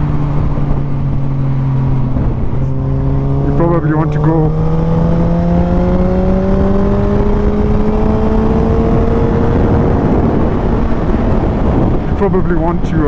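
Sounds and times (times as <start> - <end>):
motorcycle engine accelerating: 0.0 - 12.1
low wind rush: 0.0 - 13.0.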